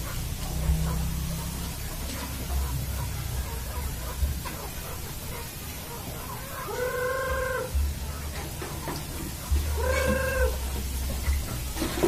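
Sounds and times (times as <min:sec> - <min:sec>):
chickens calling: 0:00.0 - 0:12.0.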